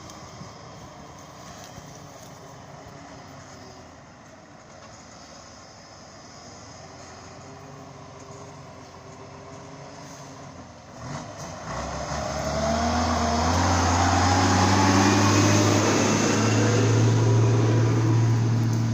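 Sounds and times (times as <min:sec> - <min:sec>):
truck engine under load: 0:00.0 - 0:18.9.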